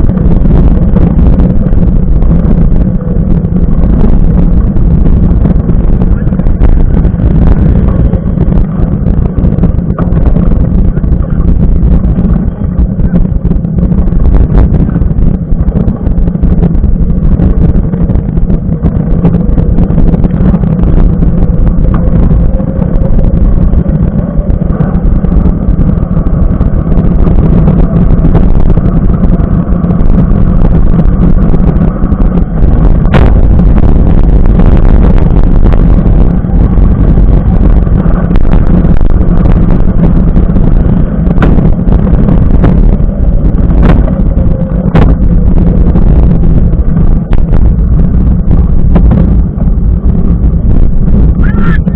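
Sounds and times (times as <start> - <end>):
wind and tyres rumbling: 0.0 - 51.9.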